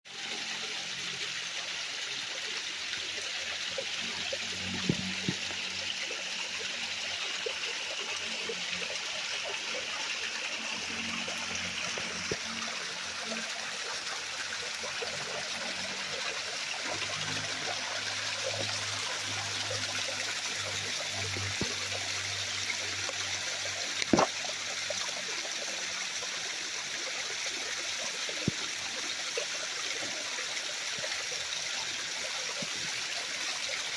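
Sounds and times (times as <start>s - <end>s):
small waterfall splashing: 0.1s - 33.9s.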